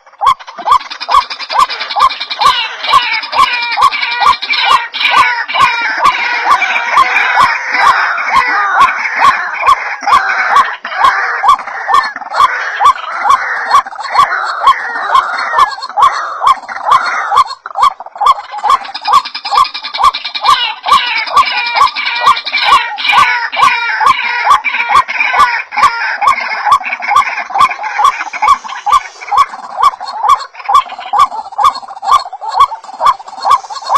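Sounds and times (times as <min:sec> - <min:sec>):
waterhens calling: 0:00.0 - 0:33.9.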